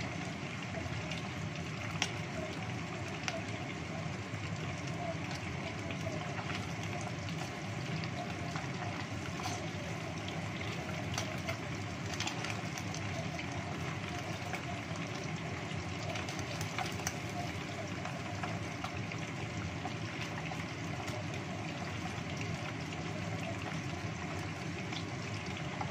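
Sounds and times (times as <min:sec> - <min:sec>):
chicken deep-frying in hot oil: 0:00.0 - 0:25.9.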